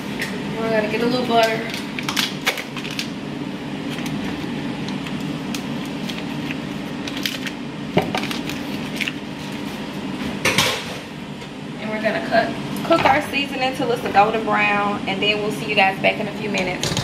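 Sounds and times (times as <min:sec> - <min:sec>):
air fryer fan hum: 0:00.0 - 0:17.0.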